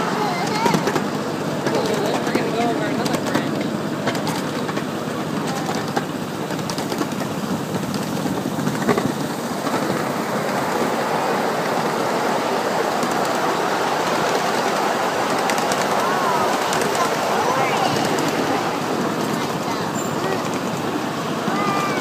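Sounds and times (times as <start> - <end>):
small train wheels rumbling on rails: 0.0 - 22.0.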